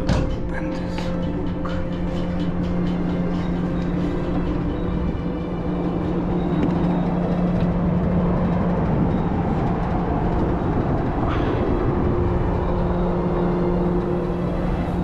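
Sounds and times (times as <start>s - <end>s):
machinery drone with low hum: 0.0s - 15.0s.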